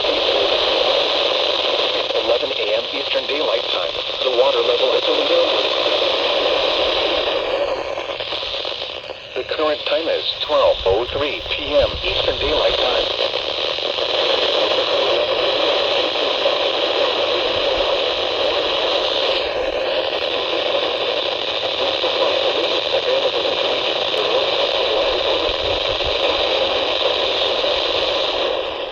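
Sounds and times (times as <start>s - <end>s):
radio static hiss: 0.0s - 28.9s.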